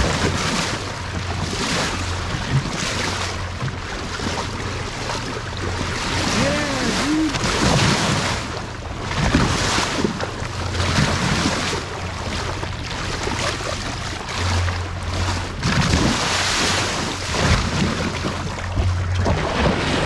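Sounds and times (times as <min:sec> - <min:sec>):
low steady hum: 0:00.0 - 0:20.0
water rushing and splashing: 0:00.0 - 0:20.0.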